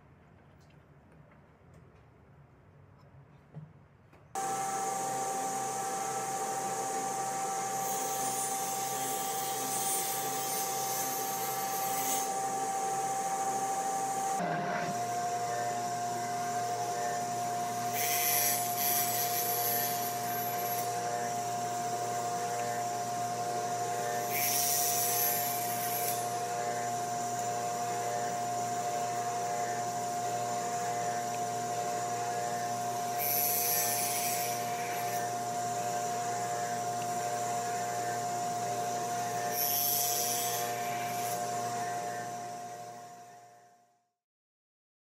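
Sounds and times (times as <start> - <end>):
saw cutting through wood: 4.4 - 43.3
table saw motor whining: 4.4 - 43.8.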